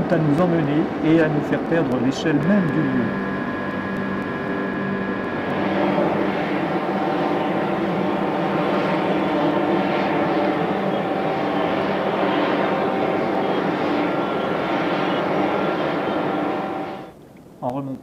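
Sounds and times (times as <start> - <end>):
industrial machinery rumble: 0.0 - 17.2
machinery hum tones: 0.0 - 17.2.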